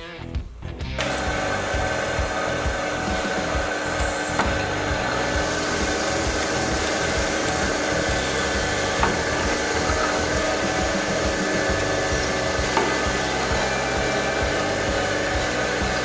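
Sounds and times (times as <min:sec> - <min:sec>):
drill press drilling metal: 0:01.0 - 0:16.0.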